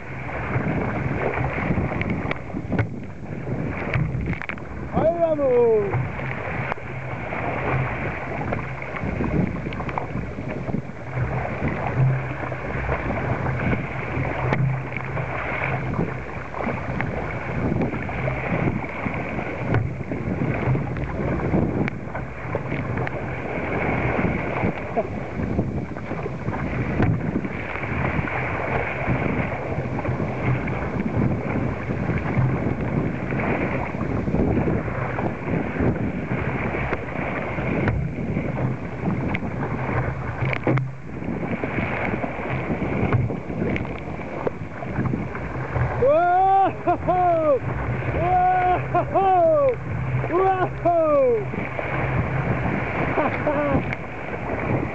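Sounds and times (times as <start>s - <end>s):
waves splashing against kayak hull: 0.0s - 54.9s
wind on microphone: 0.0s - 54.9s.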